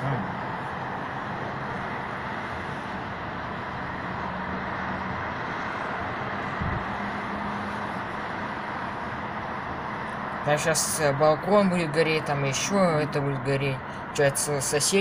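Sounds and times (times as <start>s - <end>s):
city traffic hum: 0.0s - 15.0s.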